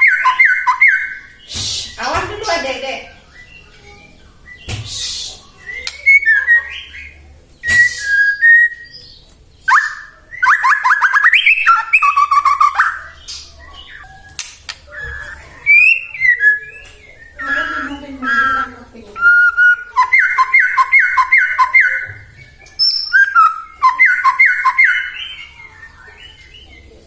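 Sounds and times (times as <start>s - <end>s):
bird singing whistles and rasps: 0.0s - 27.0s.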